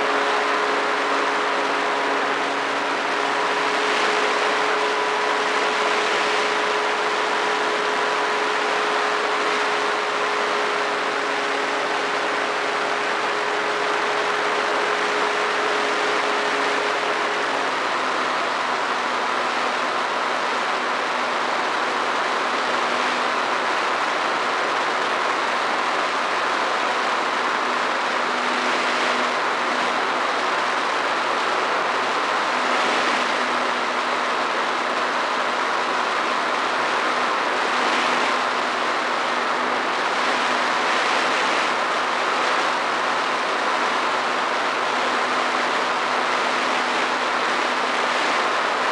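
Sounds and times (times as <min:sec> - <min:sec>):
drone propellers whirring: 0:00.0 - 0:48.9.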